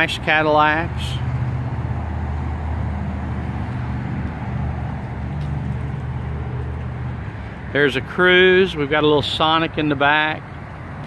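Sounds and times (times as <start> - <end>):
outdoor noise: 0.0 - 11.0
vehicle engine humming: 0.0 - 11.0.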